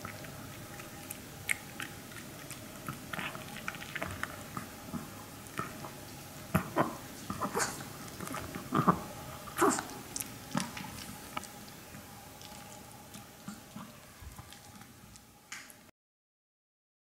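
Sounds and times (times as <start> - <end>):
dog crunching a chew: 0.0 - 15.8.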